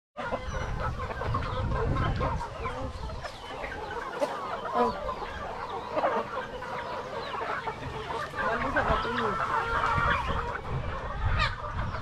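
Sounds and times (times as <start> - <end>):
chickens clucking: 0.2 - 12.0.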